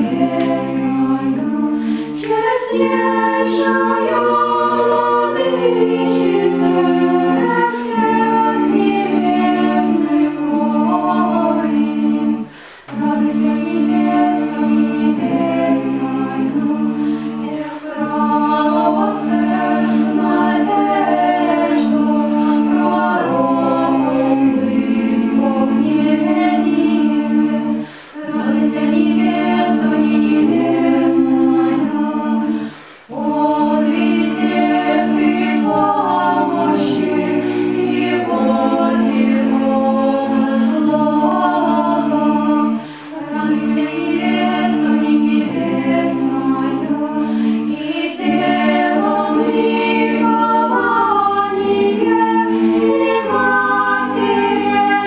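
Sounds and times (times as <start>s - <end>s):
vocal ensemble singing a hymn: 0.0s - 55.0s.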